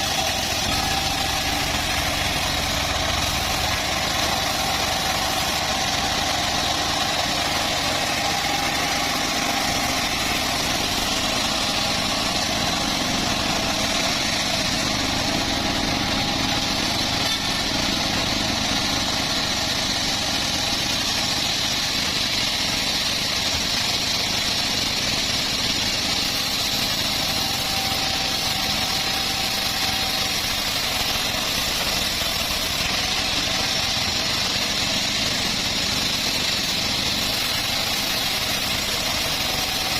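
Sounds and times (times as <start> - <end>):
bandsaw mill running: 0.0 - 39.9.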